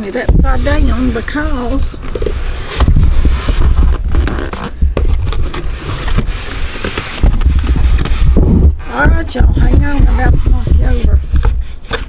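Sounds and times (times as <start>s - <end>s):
cardboard scraping and rustling: 0.0s - 12.0s.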